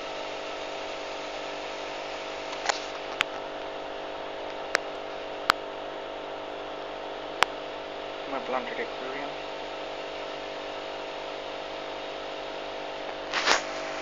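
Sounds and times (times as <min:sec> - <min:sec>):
aquarium equipment hum and hiss: 0:00.0 - 0:14.0.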